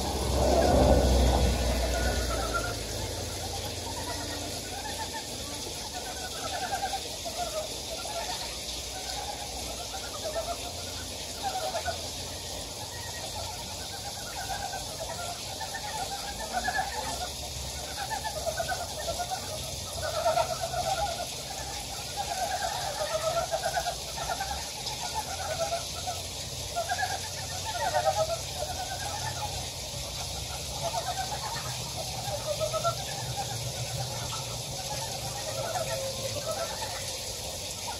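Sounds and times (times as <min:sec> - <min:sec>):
frogs croaking: 0:00.0 - 0:37.9
steady hiss: 0:00.0 - 0:37.9.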